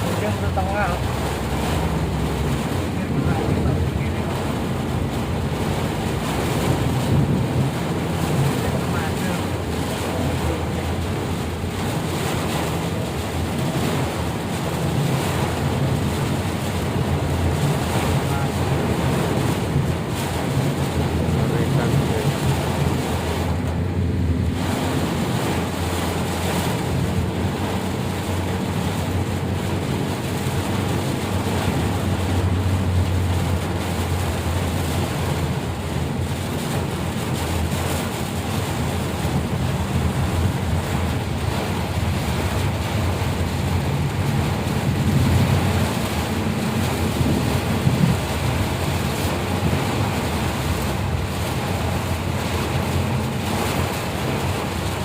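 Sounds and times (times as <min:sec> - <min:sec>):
heavy rain: 0:00.0 - 0:55.0
low engine hum: 0:00.0 - 0:55.0.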